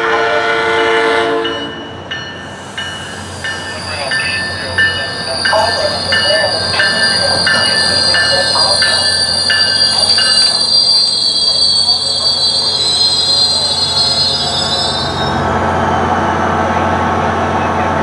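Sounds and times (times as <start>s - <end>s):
train wheels squealing on rails: 1.4s - 16.8s.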